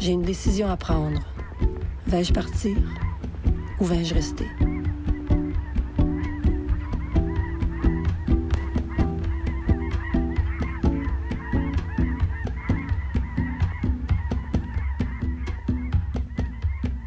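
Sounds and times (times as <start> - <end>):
geese honking in flight: 0.0 - 17.0.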